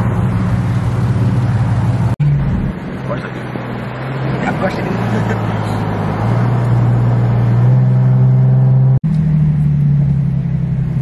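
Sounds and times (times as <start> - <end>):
car engine: 0.0 - 11.0
road noise: 0.0 - 11.0.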